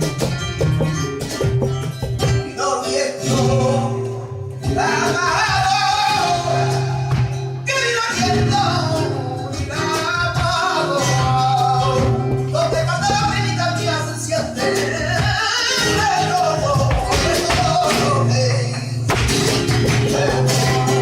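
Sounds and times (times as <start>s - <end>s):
flamenco guitar: 0.0s - 21.0s
person singing flamenco: 0.0s - 21.0s.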